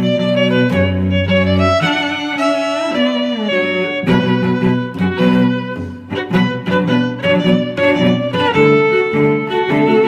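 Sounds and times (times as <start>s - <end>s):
bowed strings music: 0.0s - 10.0s.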